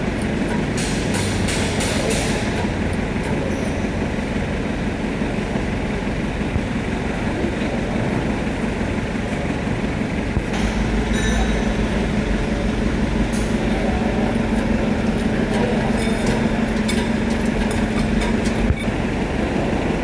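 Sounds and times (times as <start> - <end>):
machine running: 0.0 - 7.6, 8.2 - 20.0.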